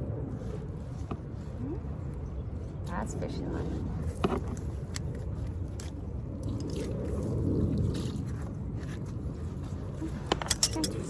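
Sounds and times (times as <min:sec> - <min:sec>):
wet plants squishing and scraping: 0:00.3 - 0:11.0.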